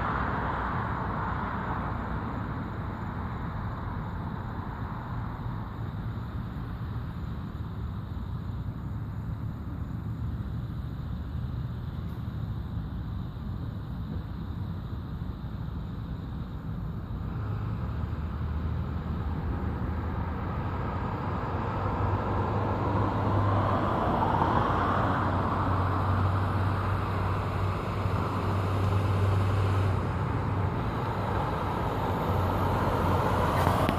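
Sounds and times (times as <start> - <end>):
road vehicle hum: 0.0 - 33.9.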